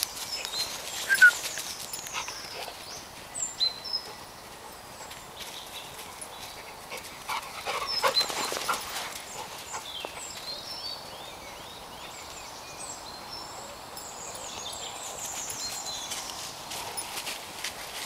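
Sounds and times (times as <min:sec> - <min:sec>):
birds chirping: 0:00.0 - 0:16.6.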